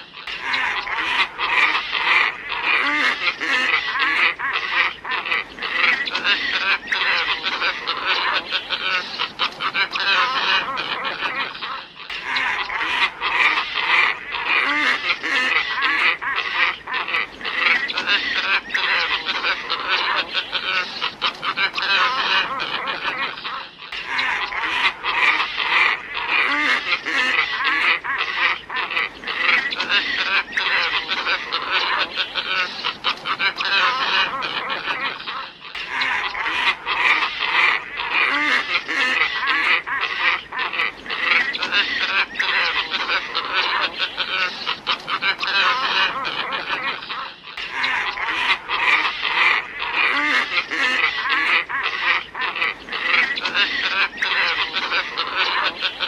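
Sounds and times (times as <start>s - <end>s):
birds honking calls: 0.0s - 56.0s.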